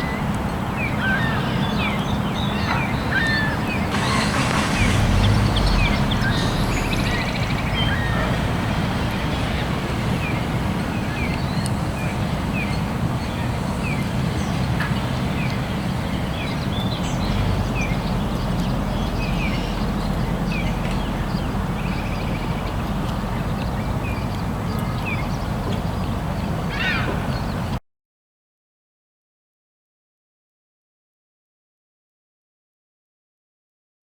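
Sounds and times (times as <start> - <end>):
birds chirping: 0.1 - 27.8.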